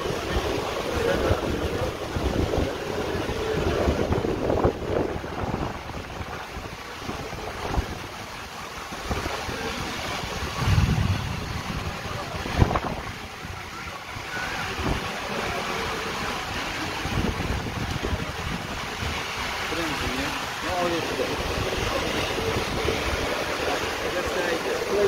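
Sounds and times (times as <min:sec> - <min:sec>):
heavy rain: 0:00.0 - 0:25.0
wind buffeting microphone: 0:00.0 - 0:25.0.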